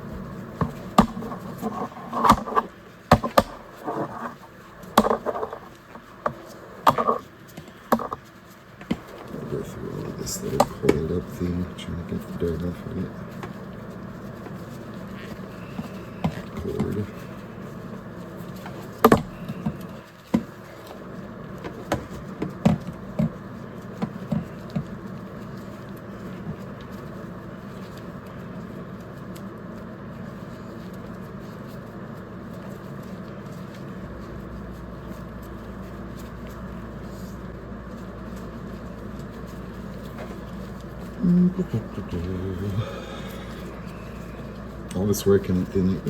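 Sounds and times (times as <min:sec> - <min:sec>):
steady background noise: 0:00.0 - 0:46.0.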